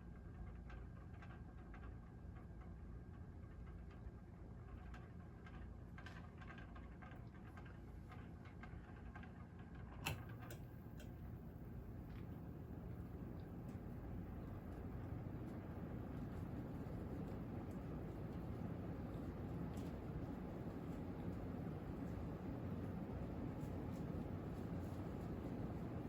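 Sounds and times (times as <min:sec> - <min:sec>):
ceiling fan motor hum: 0:00.0 - 0:26.0.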